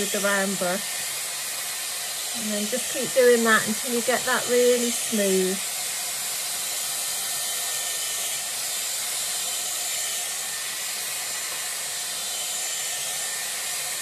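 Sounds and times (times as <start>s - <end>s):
hair styler air blowing: 0.0s - 14.0s.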